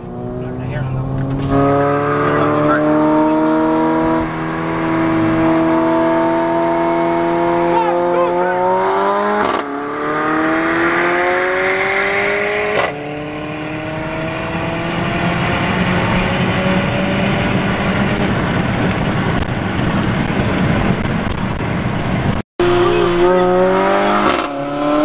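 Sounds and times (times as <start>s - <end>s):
car engine accelerating hard: 0.0s - 25.0s
wind and road noise: 0.0s - 25.0s.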